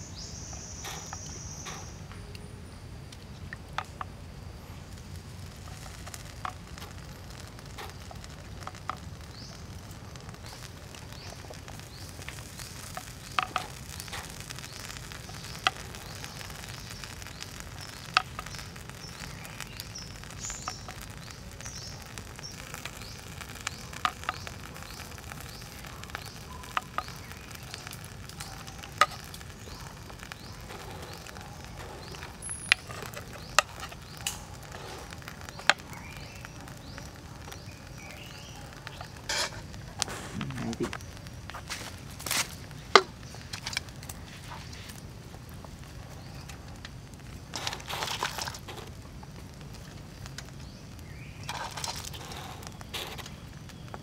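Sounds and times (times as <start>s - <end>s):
crabs sizzling on grill: 0.0s - 54.0s
sharp clicks and pops: 0.2s - 2.5s, 3.1s - 4.2s, 4.8s - 54.0s.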